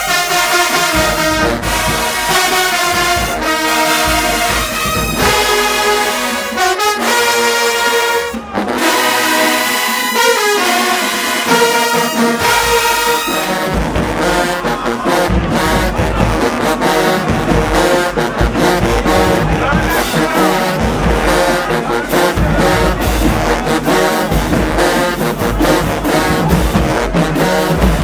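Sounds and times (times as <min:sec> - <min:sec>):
bass drums driving beat: 0:00.0 - 0:07.0, 0:11.0 - 0:28.0
brass playing held chords: 0:00.0 - 0:28.0.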